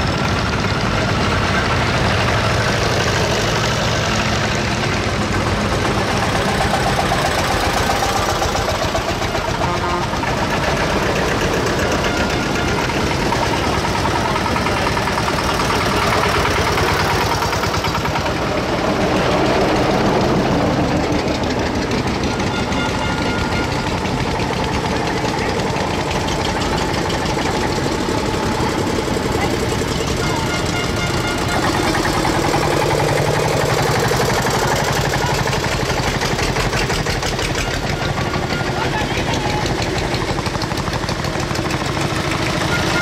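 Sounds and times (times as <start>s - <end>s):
tractor engines chugging: 0.0s - 43.0s.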